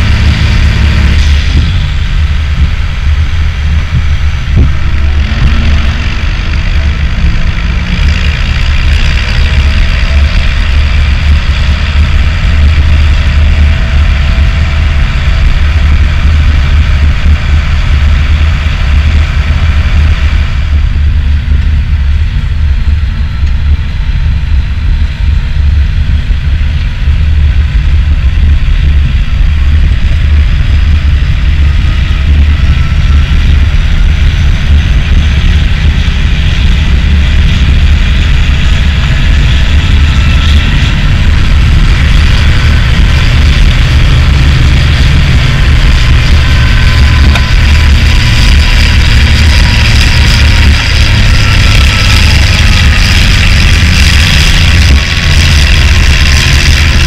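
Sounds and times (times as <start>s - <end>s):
tractor engine rumbling: 0.0s - 57.0s.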